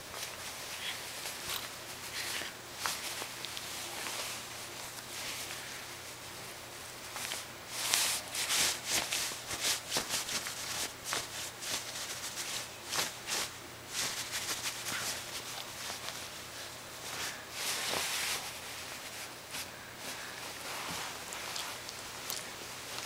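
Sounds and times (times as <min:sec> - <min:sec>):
bed sheet rustling and scratching: 0:00.0 - 0:23.0.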